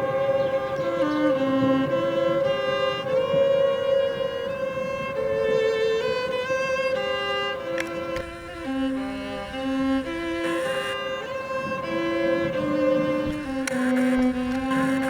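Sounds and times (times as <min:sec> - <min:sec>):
string music melody: 0:00.0 - 0:15.0
tornado warning siren steady tone: 0:00.0 - 0:15.0.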